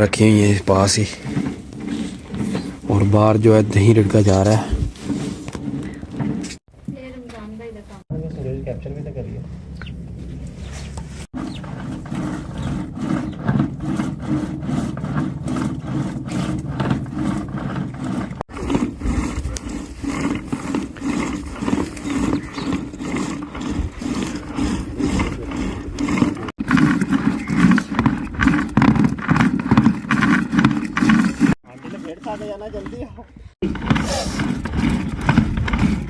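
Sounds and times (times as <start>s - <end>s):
yogurt sloshing in churn: 0.0s - 6.9s, 11.2s - 36.0s.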